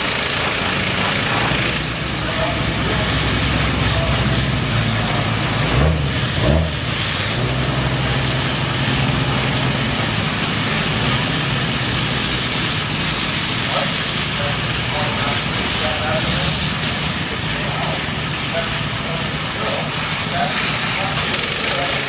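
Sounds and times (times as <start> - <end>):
engine hum: 0.0 - 22.0
high-pressure water spraying: 0.0 - 22.0.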